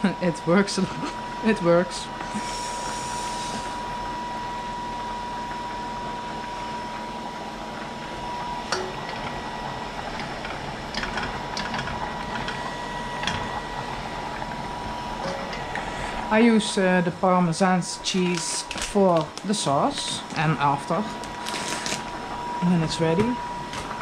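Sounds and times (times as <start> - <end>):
thin steady whine: 0.0 - 24.0.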